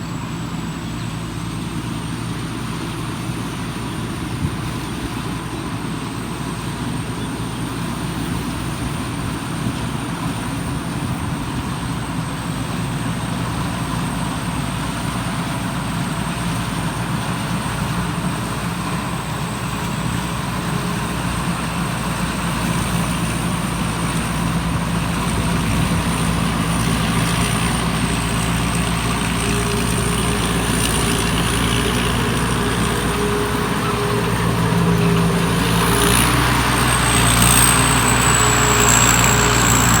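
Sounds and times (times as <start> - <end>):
harvester engine running: 0.0 - 40.0.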